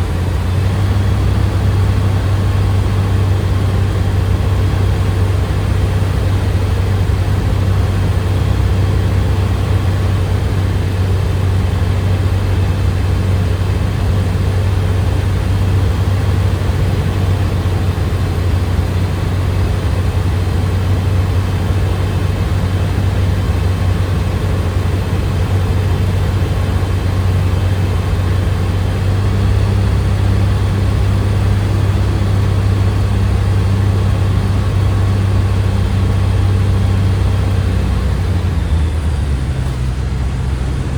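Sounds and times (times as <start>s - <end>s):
microlight engine drone: 0.0s - 40.9s.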